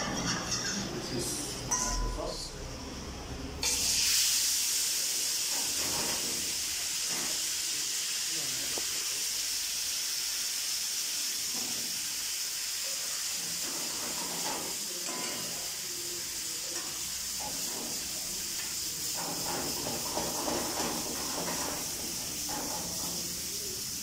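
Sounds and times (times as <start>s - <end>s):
sauce sizzling in a pan: 3.6s - 24.0s.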